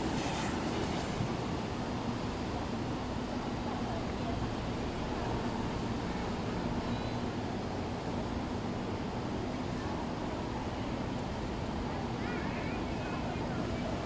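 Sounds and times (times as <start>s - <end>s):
outdoor background rush: 0.0s - 14.0s.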